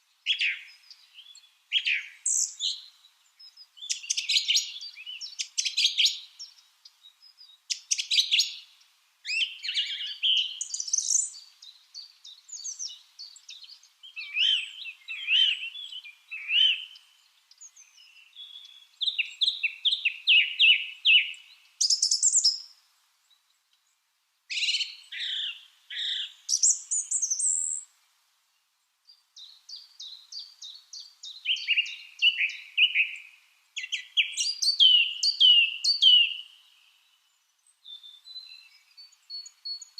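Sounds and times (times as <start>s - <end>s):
lovebirds chirping: 0.0s - 27.9s, 28.5s - 39.9s.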